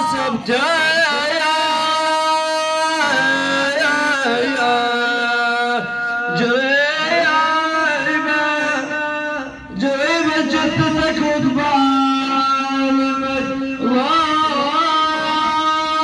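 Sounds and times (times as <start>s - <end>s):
man singing a sad lament: 0.0s - 16.0s.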